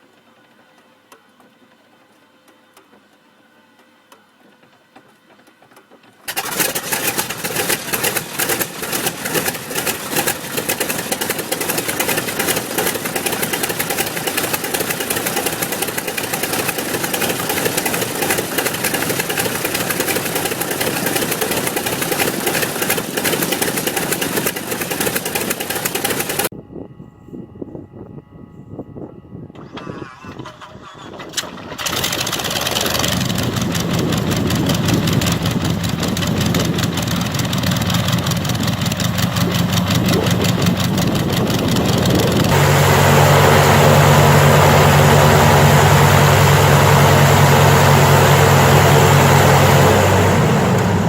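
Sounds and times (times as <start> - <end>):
aircraft piston engine running: 6.3 - 26.5, 29.6 - 51.0.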